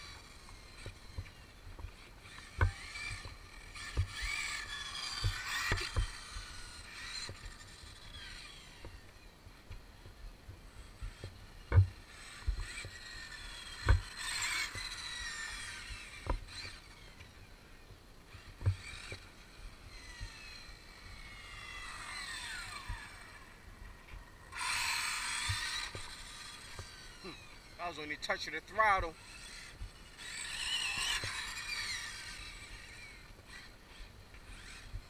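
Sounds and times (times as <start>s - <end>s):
electric motor whine: 0.0s - 35.0s.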